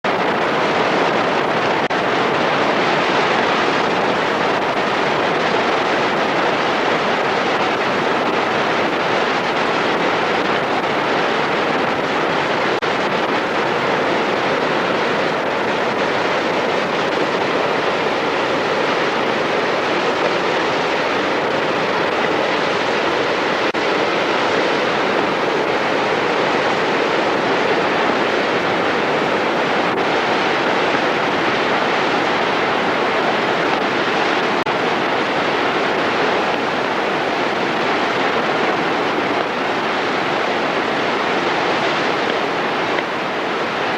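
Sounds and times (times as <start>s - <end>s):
floodwater rushing: 0.1s - 43.9s.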